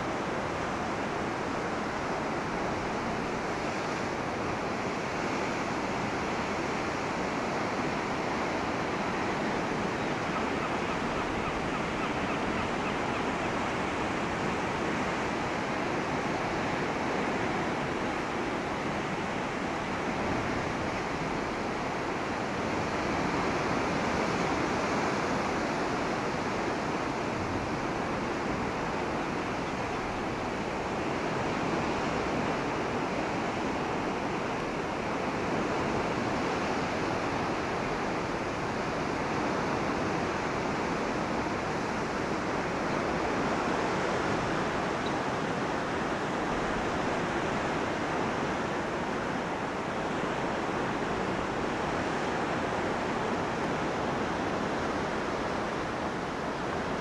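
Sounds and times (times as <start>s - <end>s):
sea surf breaking: 0.0s - 57.0s.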